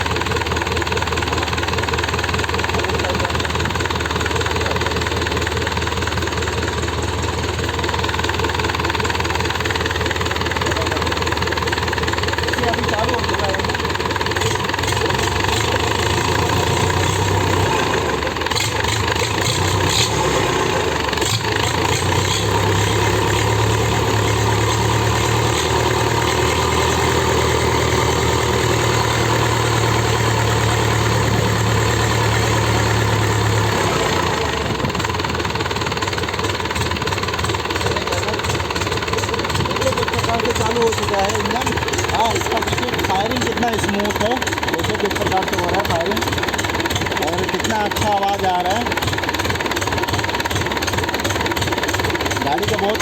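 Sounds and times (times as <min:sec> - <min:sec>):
forklift engine running: 0:00.0 - 0:53.0.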